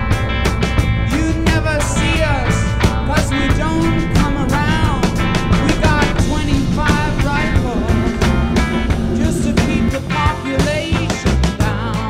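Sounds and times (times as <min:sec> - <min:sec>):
rock music with singing: 0:00.0 - 0:12.0.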